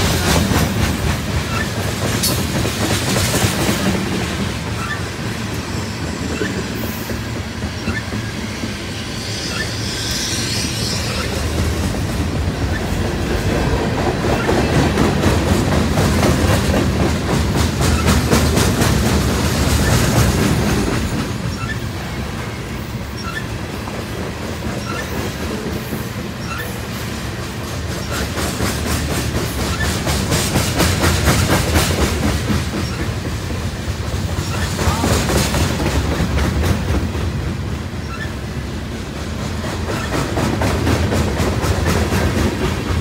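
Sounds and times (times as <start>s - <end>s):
wheels clicking over rail joints: 0.0s - 5.6s, 11.1s - 43.0s
freight train rumbling past: 0.0s - 43.0s.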